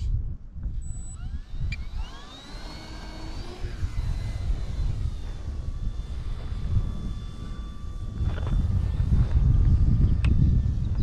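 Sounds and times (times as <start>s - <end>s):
model plane motor whine: 0.0s - 11.0s
wind rumble on microphone: 0.0s - 11.0s.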